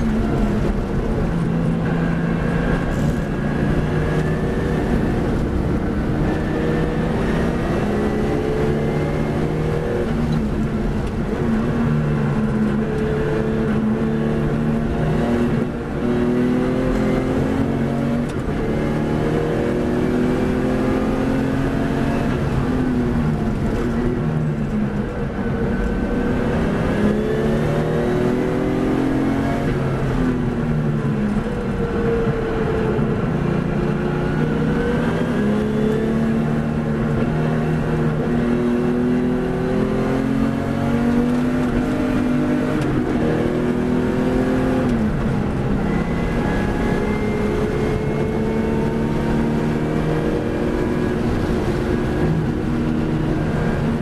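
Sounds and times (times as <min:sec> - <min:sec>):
racing car engine accelerating: 0:00.0 - 0:54.0
rushing wind noise: 0:00.0 - 0:54.0.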